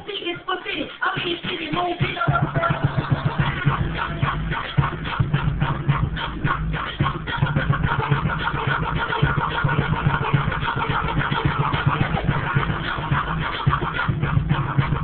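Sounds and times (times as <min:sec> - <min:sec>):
loud bounce music with beat: 0:00.0 - 0:15.0.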